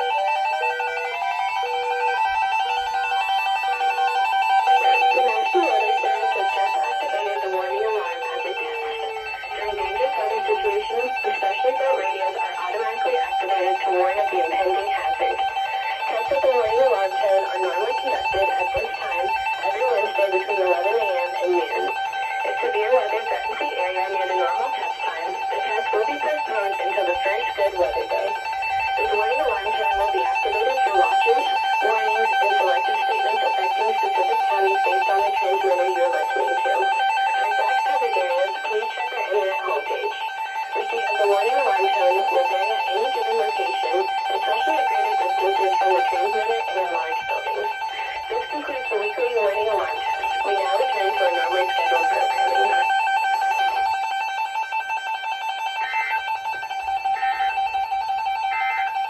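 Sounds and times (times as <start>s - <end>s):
two-tone electronic alert tone: 0.0s - 59.0s.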